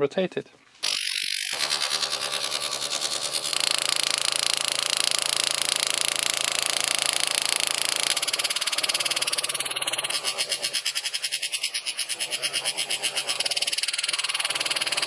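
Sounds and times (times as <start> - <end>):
pneumatic engraver chattering: 0.8 - 15.0.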